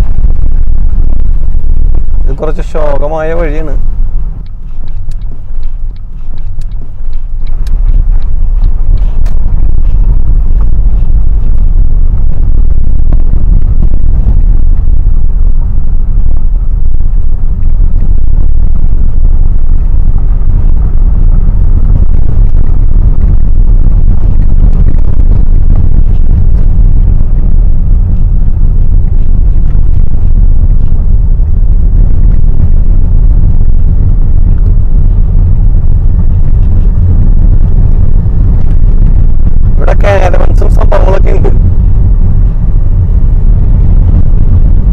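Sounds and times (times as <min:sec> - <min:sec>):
car engine rumble: 0:00.0 - 0:44.9.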